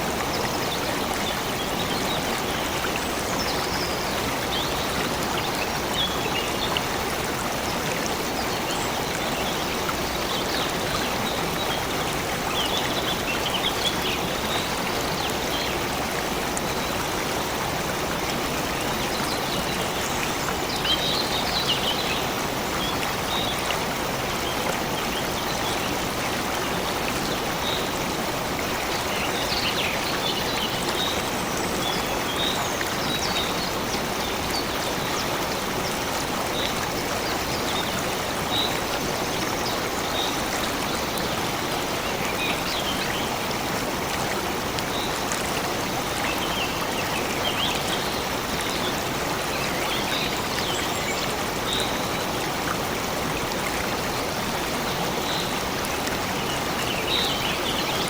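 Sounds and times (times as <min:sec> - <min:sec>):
stream rushing: 0:00.0 - 0:58.0.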